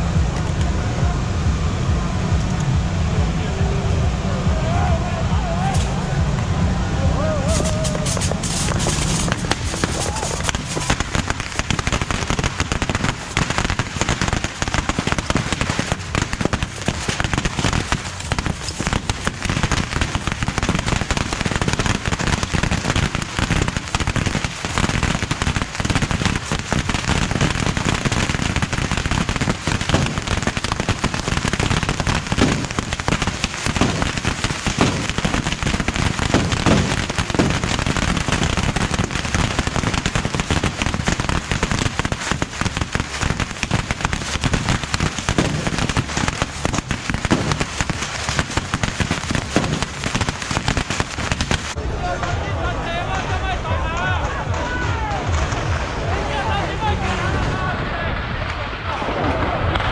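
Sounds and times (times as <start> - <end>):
firecrackers and rockets popping: 0.0 - 4.2, 5.3 - 59.9.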